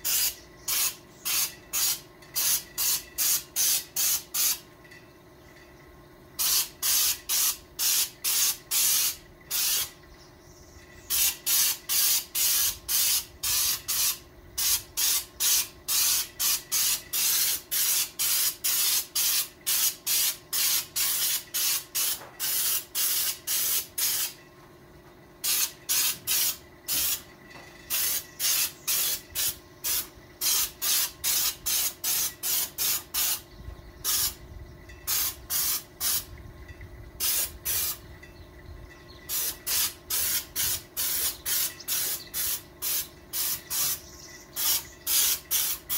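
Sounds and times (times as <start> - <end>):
spray gun hissing bursts: 0.0 - 4.6, 6.4 - 10.0, 11.1 - 24.4, 25.4 - 27.3, 27.9 - 33.4, 34.0 - 34.4, 35.1 - 36.3, 37.2 - 38.0, 39.3 - 45.9
faint steady hum: 0.0 - 45.9.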